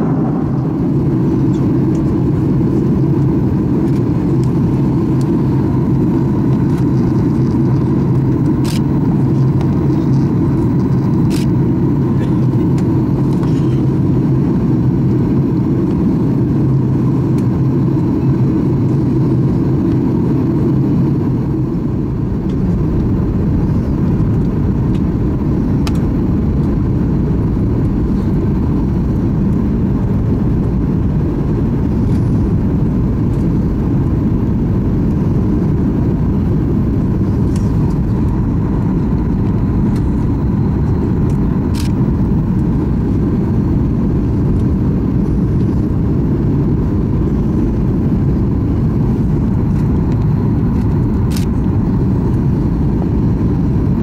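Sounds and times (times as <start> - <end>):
aircraft cabin engine rumble: 0.0 - 54.0
low hum: 0.0 - 54.0.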